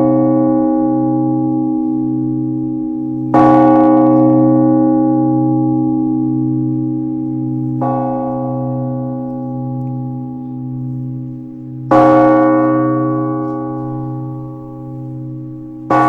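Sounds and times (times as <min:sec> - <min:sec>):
large church bell tolling: 0:00.0 - 0:16.0.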